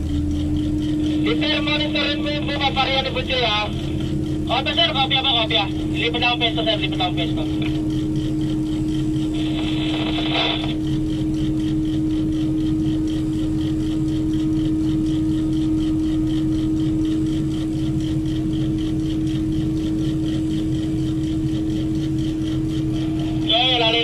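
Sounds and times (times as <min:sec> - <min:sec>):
crane diesel engine running: 0:00.0 - 0:24.0.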